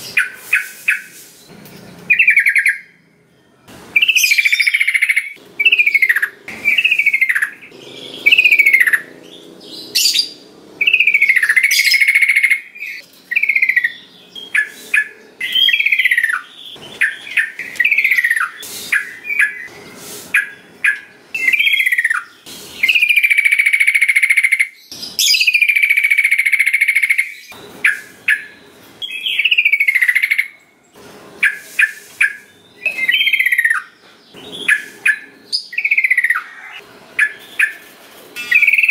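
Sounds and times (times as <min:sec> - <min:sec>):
bulbul singing: 0:00.0 - 0:30.6, 0:31.4 - 0:37.8, 0:38.4 - 0:38.9.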